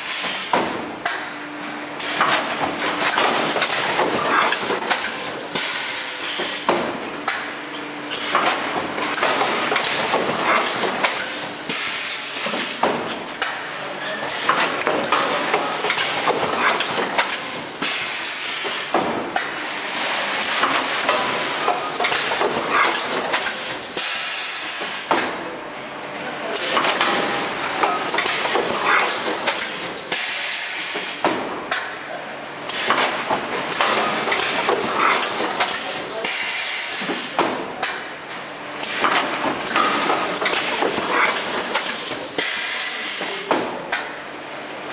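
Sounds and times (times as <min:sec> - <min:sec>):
machine clattering knocks and clicks: 0:00.0 - 0:01.4, 0:02.0 - 0:25.5, 0:26.6 - 0:32.1, 0:32.7 - 0:44.3.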